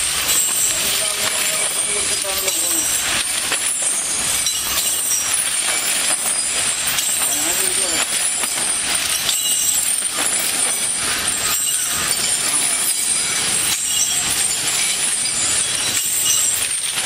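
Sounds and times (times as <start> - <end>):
chains clinking and scraping: 0.0 - 17.0
steady hiss: 0.0 - 17.0.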